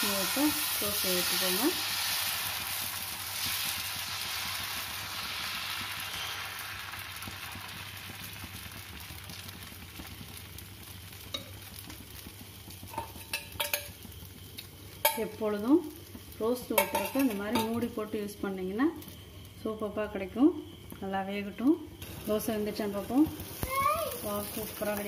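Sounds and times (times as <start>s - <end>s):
batter sizzling on hot iron: 0.0s - 25.0s.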